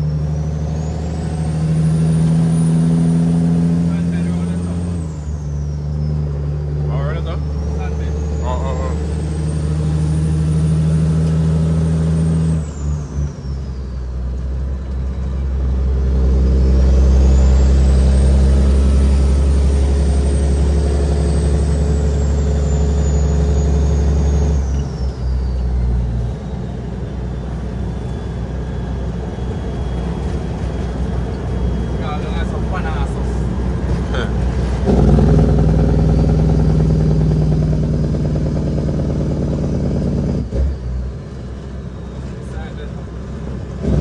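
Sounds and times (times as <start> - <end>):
high engine whistle: 0.0 - 14.1, 16.3 - 40.8
diesel truck engine pulling hard: 0.0 - 44.0.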